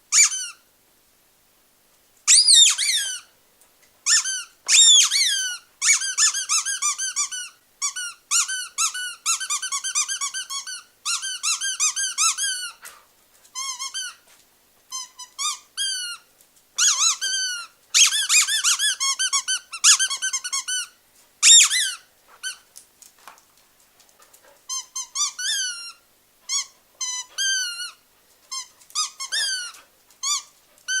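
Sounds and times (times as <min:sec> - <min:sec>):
squeaky dog toy squeaking: 0:00.1 - 0:00.6, 0:02.3 - 0:03.3, 0:04.1 - 0:12.7, 0:13.6 - 0:14.2, 0:14.9 - 0:22.6, 0:24.7 - 0:31.0.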